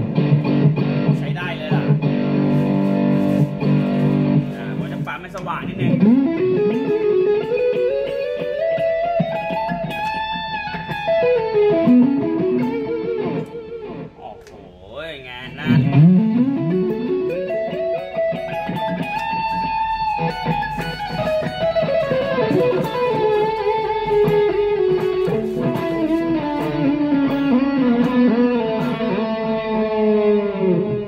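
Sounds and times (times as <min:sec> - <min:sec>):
electric guitar lead line: 0:00.0 - 0:14.3, 0:15.5 - 0:31.0.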